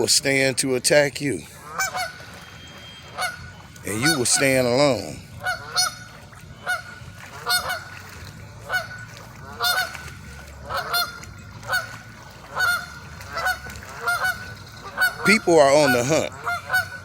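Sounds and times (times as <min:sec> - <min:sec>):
geese honking: 0:01.4 - 0:17.0.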